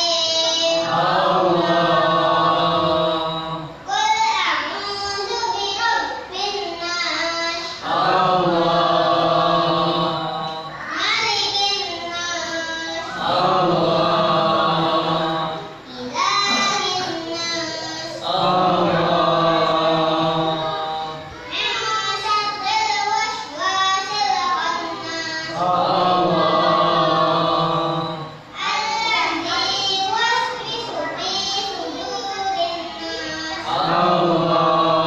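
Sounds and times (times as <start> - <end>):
boy chanting melodically: 0.0 - 35.0.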